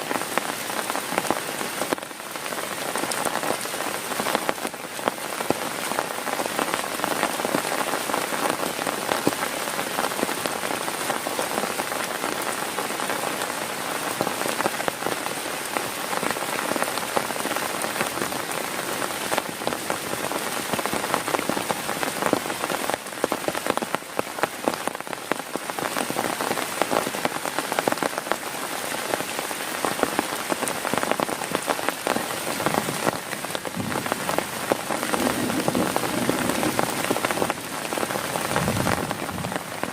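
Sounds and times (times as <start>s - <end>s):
heavy rain on tent: 0.0s - 39.9s.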